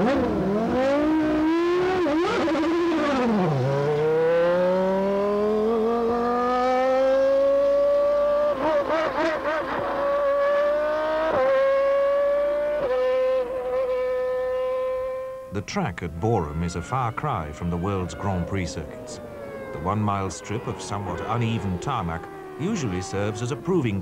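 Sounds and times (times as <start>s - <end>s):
racing car engine accelerating: 0.0s - 24.0s.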